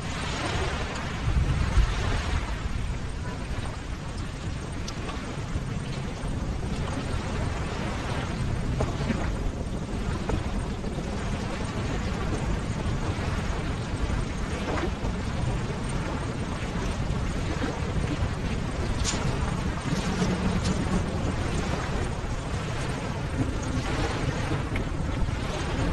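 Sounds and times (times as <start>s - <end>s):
ocean waves surf: 0.0s - 25.9s.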